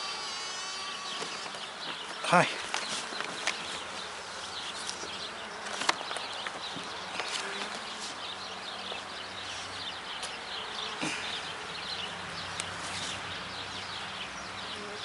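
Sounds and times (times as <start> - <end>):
bees humming: 0.0 - 15.0.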